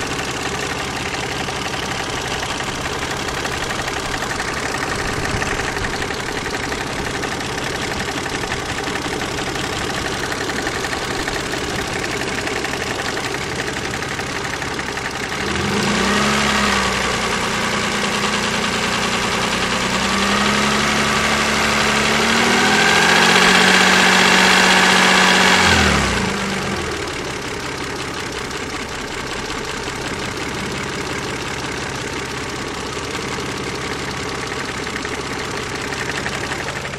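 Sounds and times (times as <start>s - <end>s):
car engine idling and revving: 0.0s - 36.9s
engine knocking noise: 0.0s - 36.9s.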